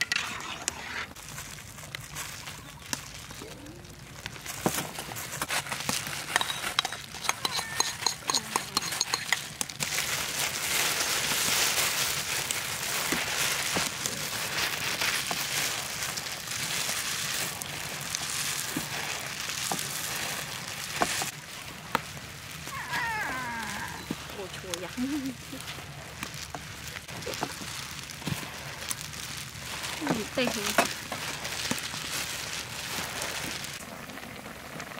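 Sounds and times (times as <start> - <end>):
plastic gloves crinkling: 0.0 - 34.9
wet squishing of noodles: 0.9 - 6.4, 9.1 - 34.9.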